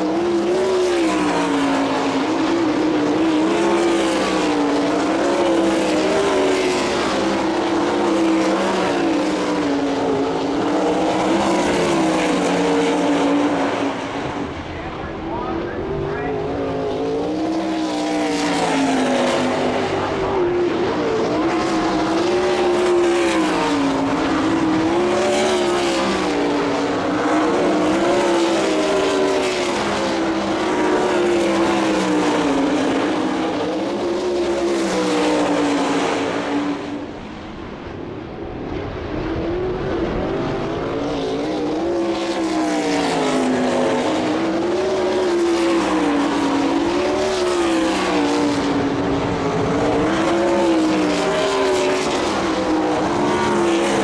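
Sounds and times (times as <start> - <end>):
race car engines racing: 0.0 - 54.0.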